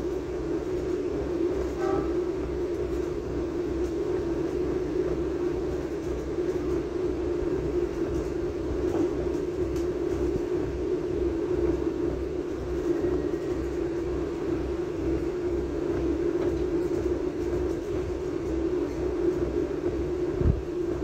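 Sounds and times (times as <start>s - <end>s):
train carriage hum and rumble: 0.0s - 21.0s.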